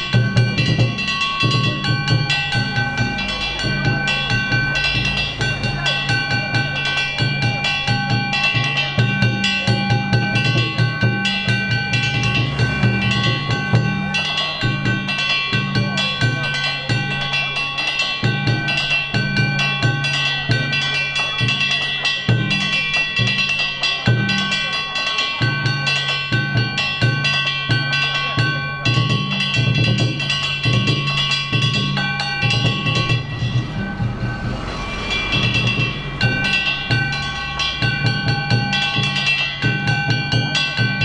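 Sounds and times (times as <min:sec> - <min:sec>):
hand-struck gongs ringing: 0:00.0 - 0:41.0
taiko drums beating: 0:00.0 - 0:41.0.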